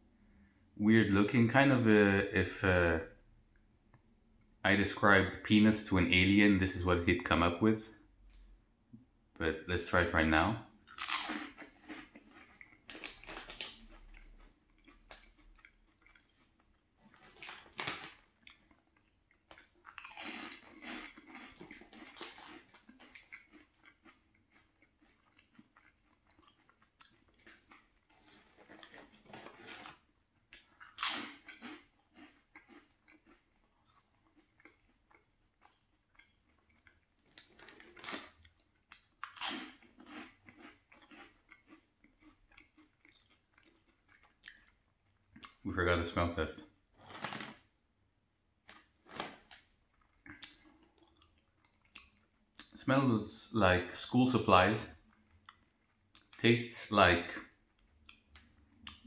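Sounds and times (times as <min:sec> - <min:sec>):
chewing and crunching snacks: 0:09.8 - 0:59.0.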